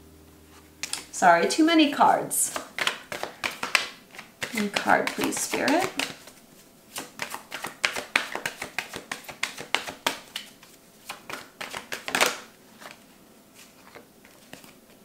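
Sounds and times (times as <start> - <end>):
cards being shuffled: 2.4 - 15.0.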